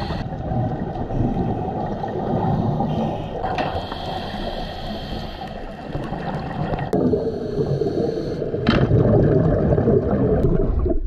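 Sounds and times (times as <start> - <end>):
underwater bubbles gurgling: 0.0 - 11.0.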